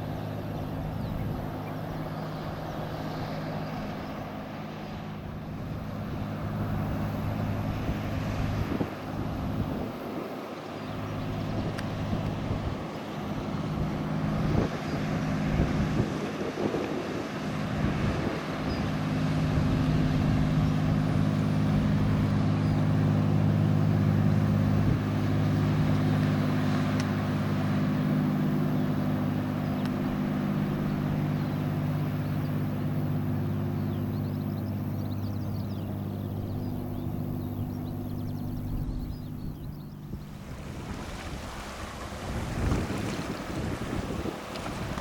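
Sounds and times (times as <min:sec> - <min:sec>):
ship diesel engine drone: 0:00.0 - 0:45.0.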